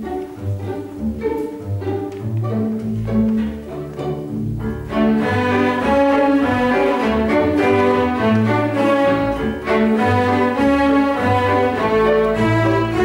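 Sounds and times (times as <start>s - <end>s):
string orchestra playing a hornpipe: 0.0s - 13.0s.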